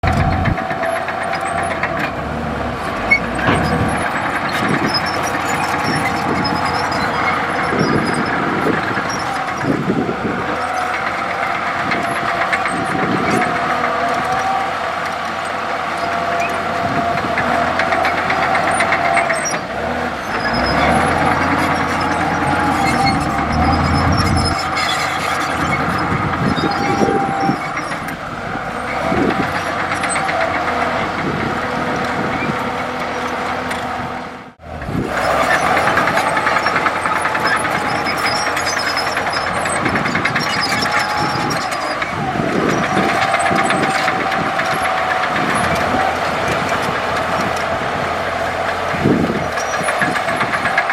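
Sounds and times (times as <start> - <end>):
bulldozer diesel engine running: 0.0 - 50.9
machinery clatter: 0.0 - 50.9.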